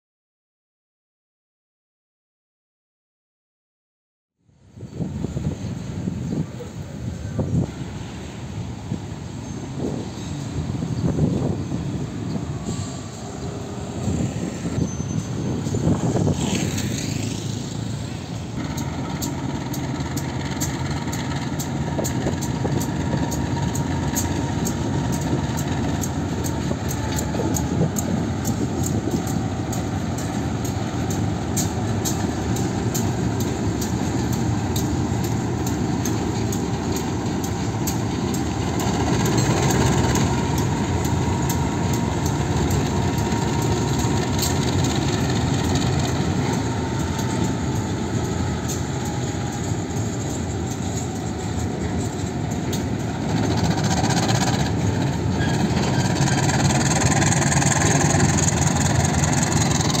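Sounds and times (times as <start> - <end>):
diesel locomotive engine: 4.5 - 60.0.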